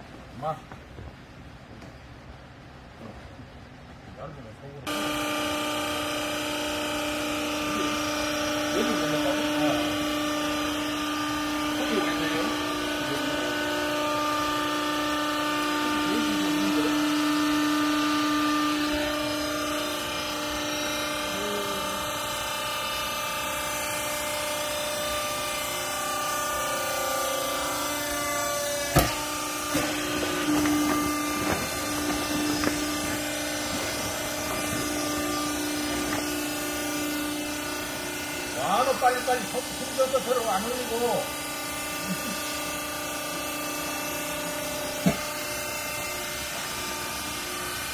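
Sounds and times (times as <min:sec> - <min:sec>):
hydraulic pump motor humming: 0:04.9 - 0:47.9.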